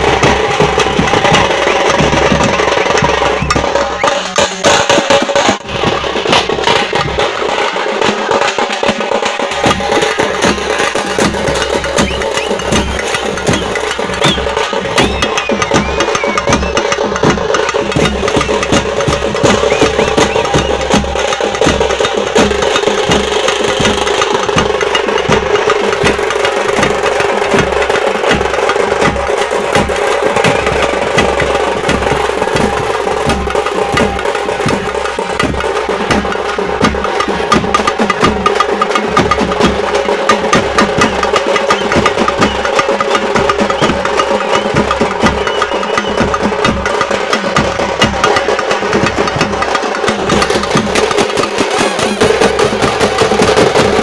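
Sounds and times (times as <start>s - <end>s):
frame drums beaten with sticks: 0.0s - 54.0s.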